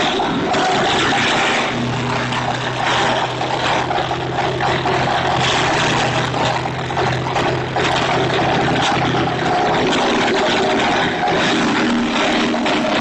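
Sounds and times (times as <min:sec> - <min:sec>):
engine hum: 0:00.0 - 0:13.0
wood chipper shredding branches: 0:00.0 - 0:13.0.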